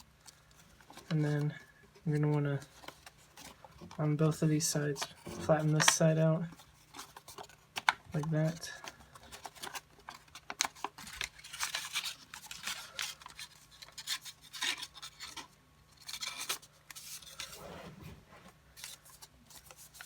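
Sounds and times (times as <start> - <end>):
paper being folded and creased: 0.0 - 20.0.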